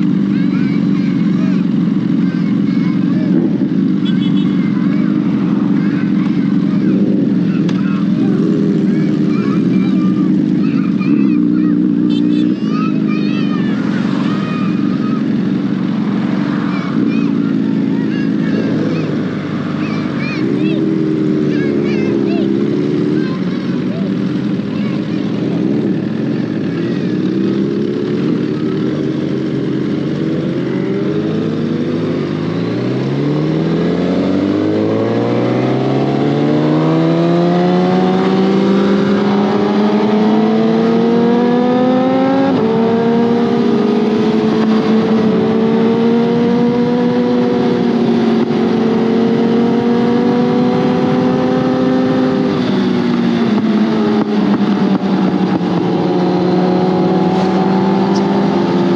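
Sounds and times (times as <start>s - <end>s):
motorcycle engine pulling hard: 0.0s - 58.9s.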